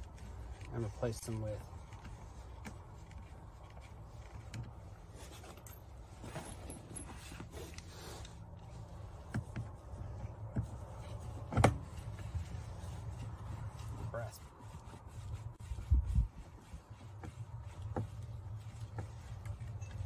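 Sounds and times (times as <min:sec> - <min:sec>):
tools handled against rubber liner: 0:00.0 - 0:15.4, 0:16.3 - 0:20.0.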